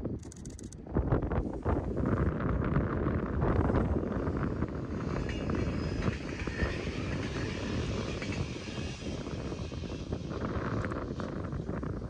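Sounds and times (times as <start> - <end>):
wind on microphone: 0.0 - 12.0
train rumbling past: 1.8 - 12.0.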